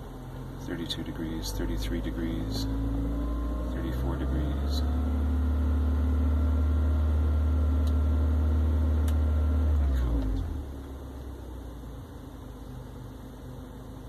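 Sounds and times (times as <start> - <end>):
car engine revving down to idle: 0.0 - 14.0.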